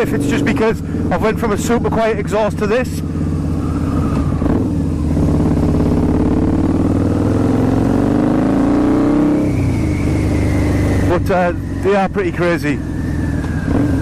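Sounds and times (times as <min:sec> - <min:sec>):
loud motorcycle engine accelerating: 0:00.0 - 0:14.0.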